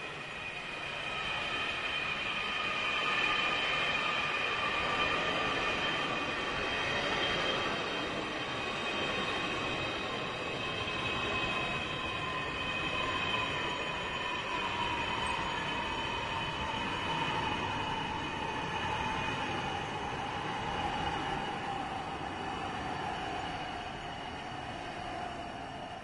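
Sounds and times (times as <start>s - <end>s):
distant jet engine whine: 0.0s - 26.0s.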